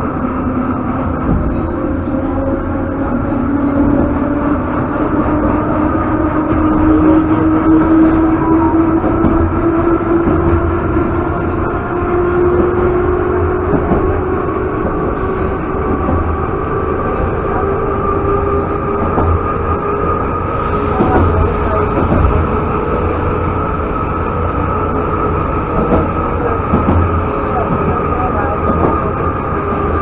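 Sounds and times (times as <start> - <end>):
train motor whine: 0.0 - 30.0
train wheels rumbling on rails: 0.0 - 30.0.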